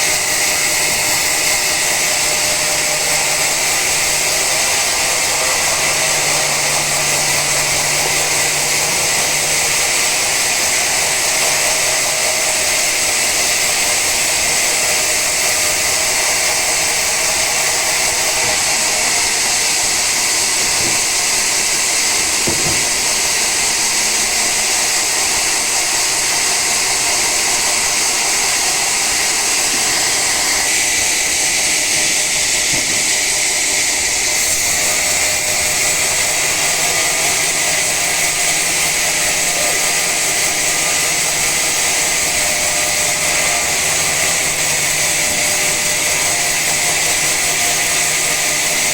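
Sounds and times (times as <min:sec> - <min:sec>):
saw cutting through log: 0:00.0 - 0:48.9.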